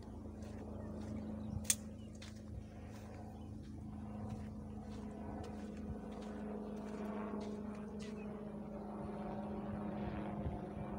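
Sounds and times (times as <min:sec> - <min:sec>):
engine humming steadily: 0:00.0 - 0:10.9.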